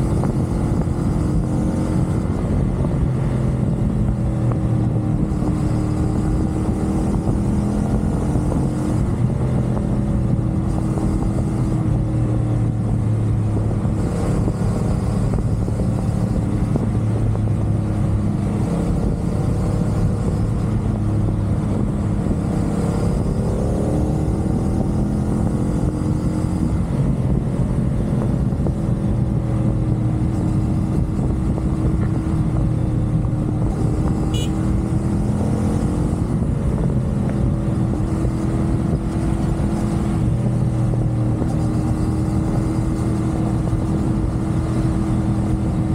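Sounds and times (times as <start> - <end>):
motorcycle engine cruising: 0.0 - 45.9
wind and road noise: 0.0 - 45.9.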